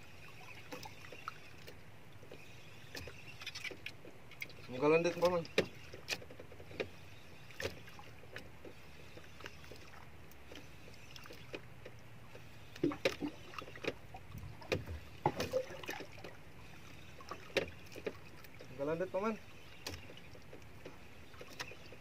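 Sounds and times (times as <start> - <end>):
sea wash: 0.0 - 22.0
wind: 0.0 - 22.0
clicks and knocks from boat: 0.4 - 22.0.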